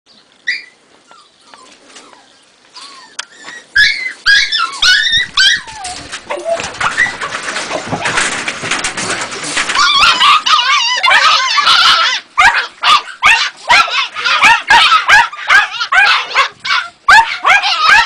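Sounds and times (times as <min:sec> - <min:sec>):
puppy yelping: 0:00.4 - 0:07.4, 0:09.7 - 0:18.0.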